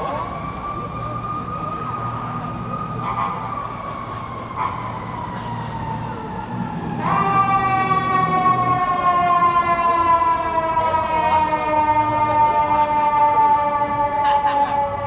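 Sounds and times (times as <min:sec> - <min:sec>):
emergency siren wailing: 0:00.0 - 0:15.0
traffic rumble: 0:00.0 - 0:15.0.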